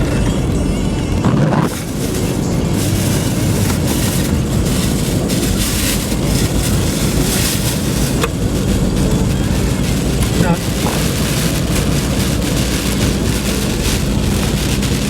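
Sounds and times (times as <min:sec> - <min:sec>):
road rumble: 0:00.0 - 0:15.0
hiss of rain and spray: 0:01.7 - 0:15.0.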